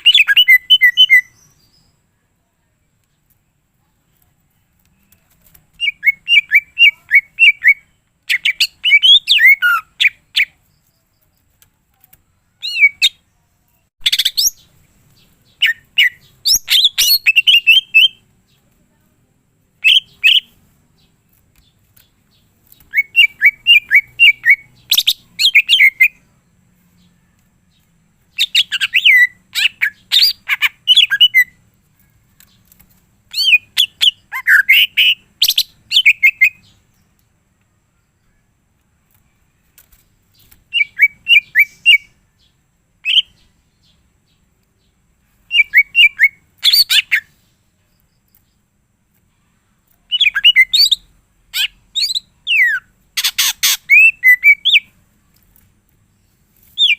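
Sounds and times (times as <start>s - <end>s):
bird singing warbling chirps: 0.0s - 2.2s, 4.9s - 19.1s, 19.7s - 37.2s, 40.4s - 48.7s, 50.0s - 55.4s, 56.1s - 56.9s.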